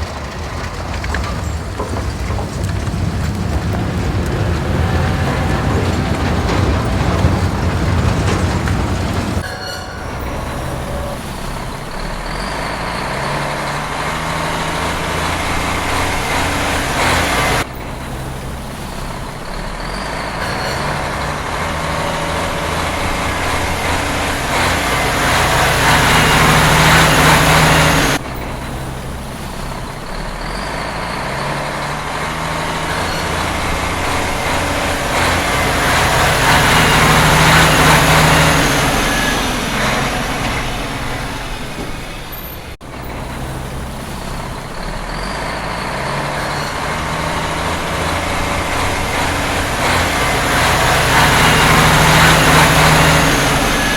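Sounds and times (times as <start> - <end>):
heavy truck engine running: 0.0 - 53.9.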